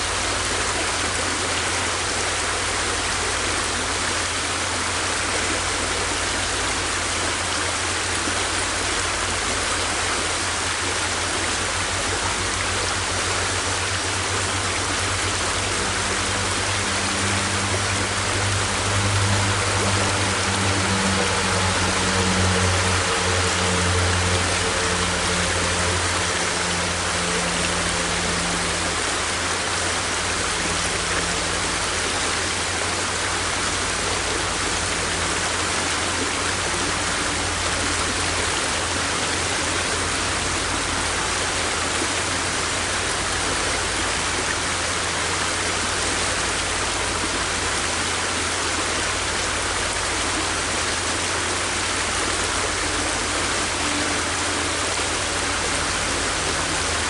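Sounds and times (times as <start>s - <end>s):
low hum: 0.0s - 57.0s
river water rushing: 0.0s - 57.0s.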